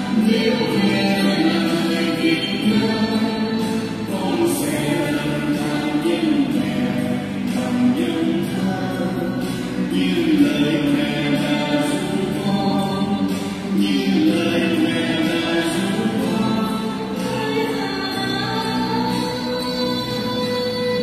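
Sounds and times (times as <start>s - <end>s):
backing music: 0.0s - 21.0s
devotional song sung into microphones: 0.0s - 21.0s.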